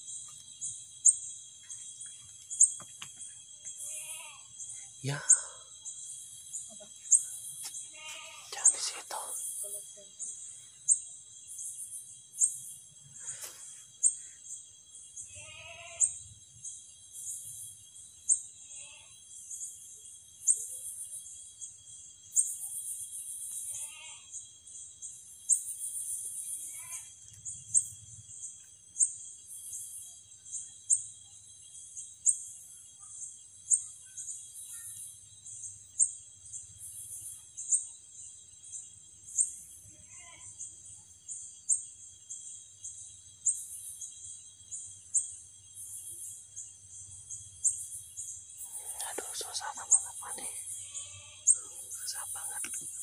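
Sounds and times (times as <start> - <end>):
high-pitched insect whine: 0.0 - 53.0
sharp high insect chirps: 0.0 - 53.0.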